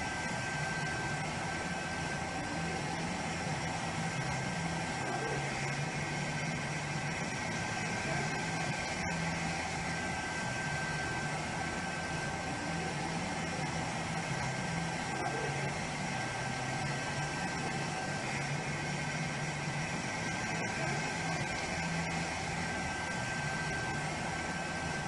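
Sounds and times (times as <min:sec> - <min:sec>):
engine drone: 0:00.0 - 0:25.0.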